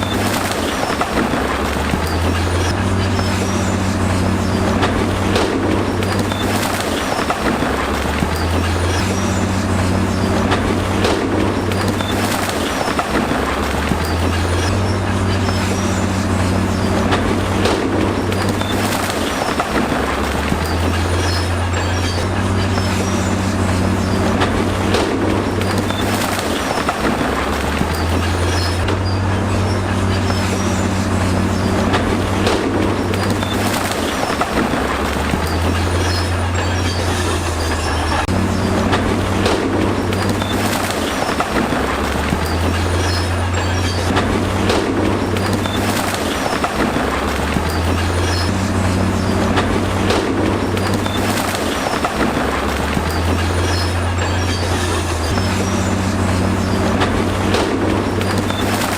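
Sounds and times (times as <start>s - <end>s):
bulldozer diesel engine running: 0.0s - 58.9s
rocks scraping: 0.0s - 58.9s
steel tracks clattering: 0.0s - 58.9s.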